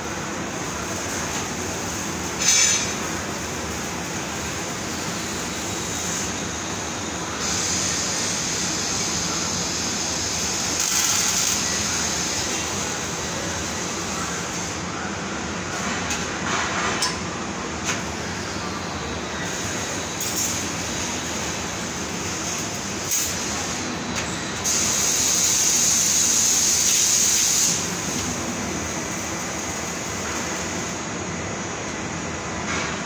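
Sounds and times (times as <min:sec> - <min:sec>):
shop machinery hum: 0:00.0 - 0:33.0
arc welder hissing and crackling: 0:00.2 - 0:14.8, 0:17.9 - 0:31.0.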